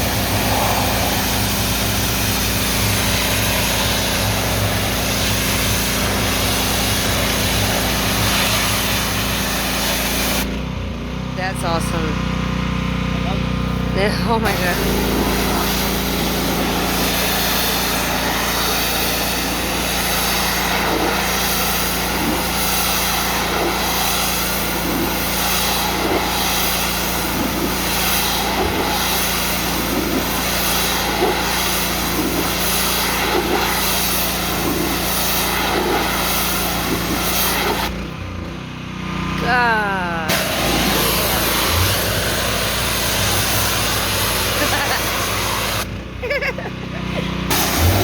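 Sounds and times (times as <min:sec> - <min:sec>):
high-pressure spray hiss: 0:00.0 - 0:10.5, 0:14.7 - 0:37.9, 0:40.3 - 0:45.8, 0:47.5 - 0:48.0
pressure washer engine running: 0:00.0 - 0:48.0.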